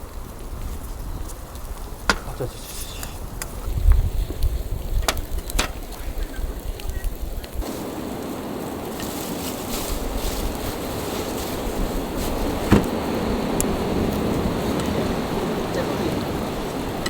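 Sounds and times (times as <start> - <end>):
blizzard wind rushing: 0.0 - 17.0
wind buffeting microphone: 0.0 - 17.0.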